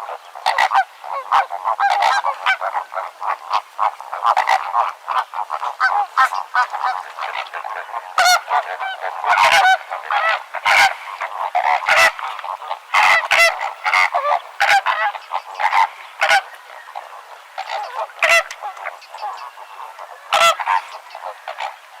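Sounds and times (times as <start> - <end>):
flamingos honking: 0.0 - 22.0.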